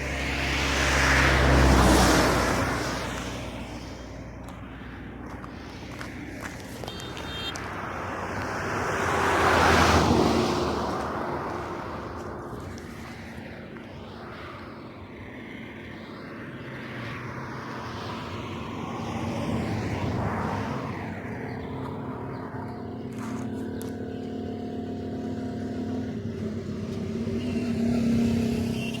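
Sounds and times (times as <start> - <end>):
engine humming: 0.0 - 16.2, 19.5 - 29.0
vehicle passing: 0.0 - 29.0.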